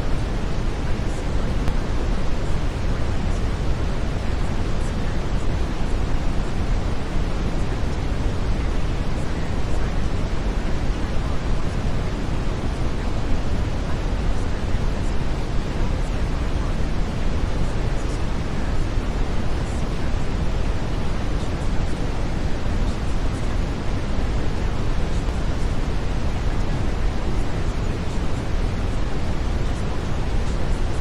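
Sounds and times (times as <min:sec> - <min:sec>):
brown noise hiss: 0:00.0 - 0:31.0.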